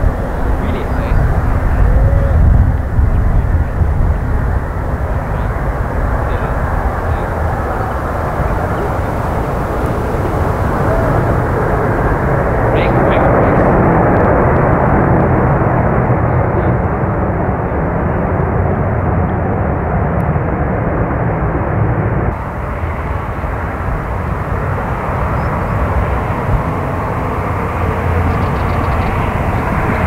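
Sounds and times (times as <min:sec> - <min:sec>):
jet engines at taxi thrust: 0:00.0 - 0:30.0.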